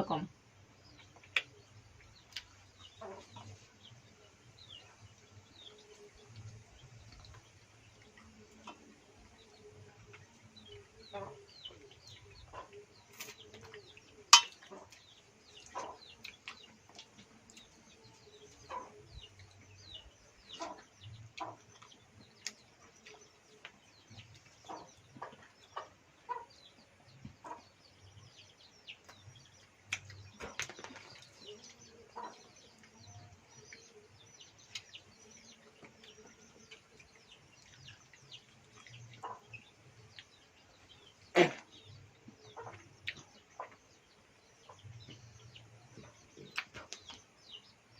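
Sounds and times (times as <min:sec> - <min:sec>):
small birds chirping: 0:00.0 - 0:47.9
chickens clucking: 0:00.9 - 0:47.9.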